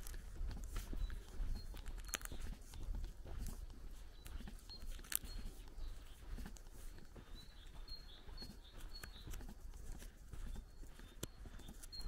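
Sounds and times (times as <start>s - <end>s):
footsteps on sandy dirt road: 0.0s - 12.0s
small birds chirping: 0.0s - 12.0s.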